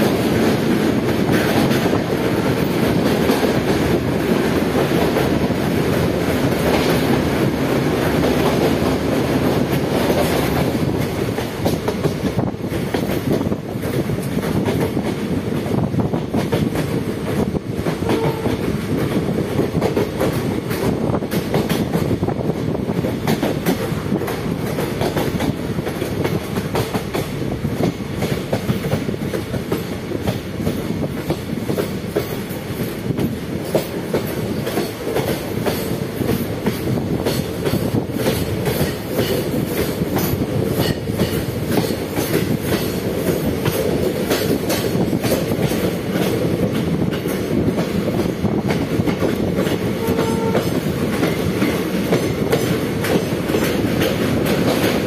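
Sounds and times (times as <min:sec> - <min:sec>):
train wheels clattering over rails: 0:00.0 - 0:55.0.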